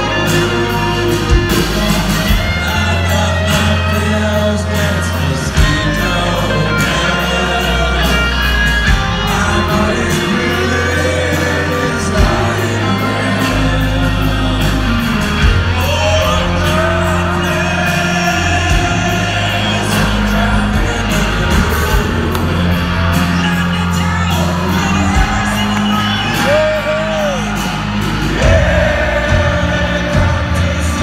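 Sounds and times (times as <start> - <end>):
lead singer singing: 0.0 - 31.0
live rock band playing: 0.0 - 31.0
crowd shouting and whooping: 5.0 - 31.0.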